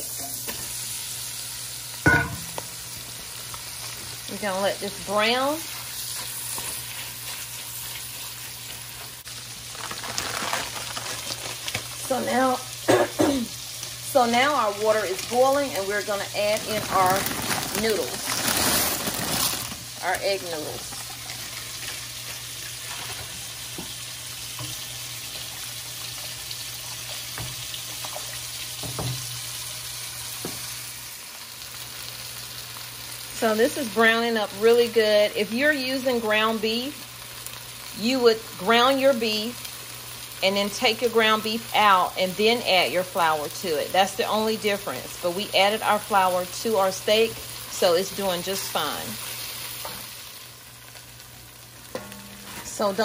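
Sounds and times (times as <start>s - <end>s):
meat sizzling in a pot: 0.0s - 53.0s
water boiling in a pot: 1.2s - 30.6s, 32.4s - 53.0s.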